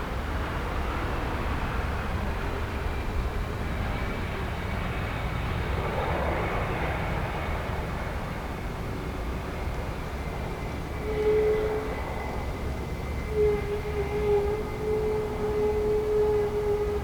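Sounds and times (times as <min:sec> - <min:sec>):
jet engines rumbling with whine: 0:00.0 - 0:17.0.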